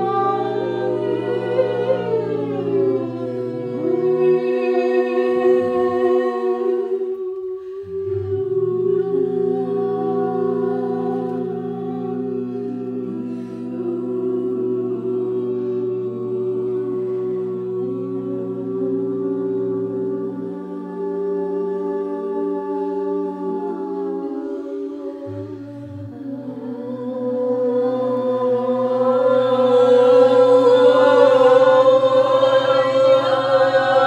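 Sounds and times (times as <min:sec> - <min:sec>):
voices singing held notes: 0:00.0 - 0:34.0.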